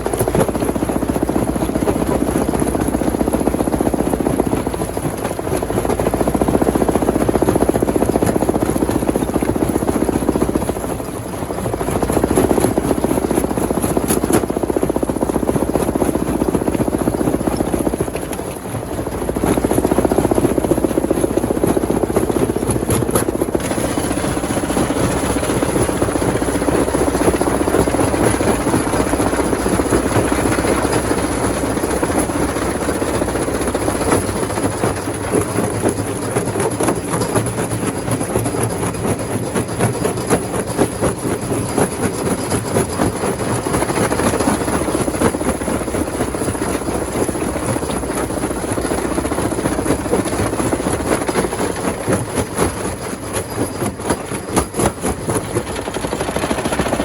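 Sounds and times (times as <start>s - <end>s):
rock crusher machine rumbling: 3.0s - 57.0s.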